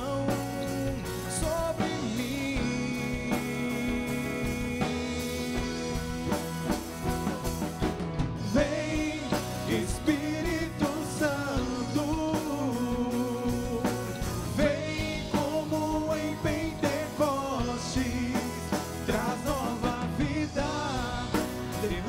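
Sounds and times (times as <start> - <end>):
person singing: 0.0 - 7.5, 8.4 - 22.0
pop-rock band with drum kit: 0.0 - 22.0.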